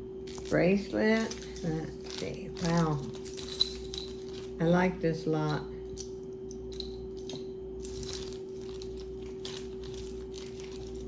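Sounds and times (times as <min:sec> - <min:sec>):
steady low hum: 0:00.0 - 0:11.0
jewelry clinking: 0:00.2 - 0:11.0.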